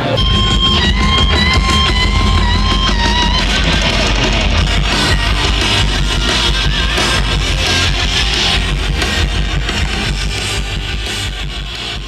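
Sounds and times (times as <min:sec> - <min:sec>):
live rock music distorted guitar: 0:00.0 - 0:12.0.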